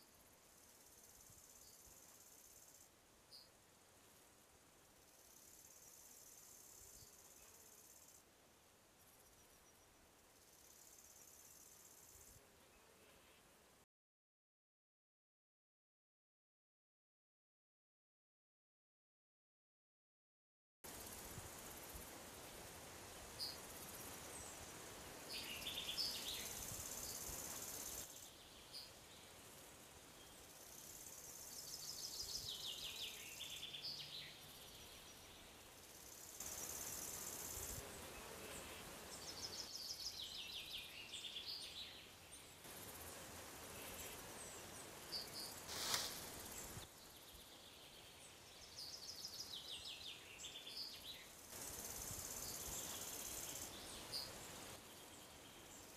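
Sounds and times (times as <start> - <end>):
insect buzz: 0.0 - 8.3, 8.9 - 13.9, 20.9 - 55.9.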